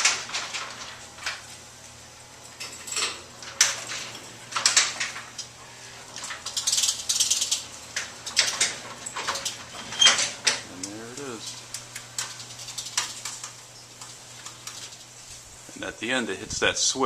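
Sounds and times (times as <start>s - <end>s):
screen door rattling and clicking: 0.0s - 1.5s, 2.6s - 15.1s.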